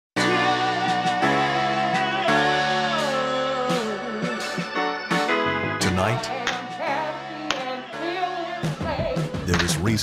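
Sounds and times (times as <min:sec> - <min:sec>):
sustained chords music: 0:00.2 - 0:08.8.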